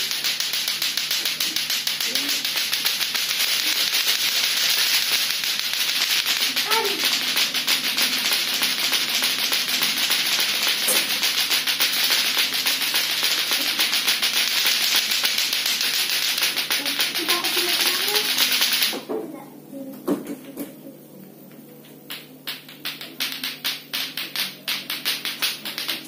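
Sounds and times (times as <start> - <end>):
clacker toy balls clacking: 0.0 - 19.1, 22.0 - 26.0.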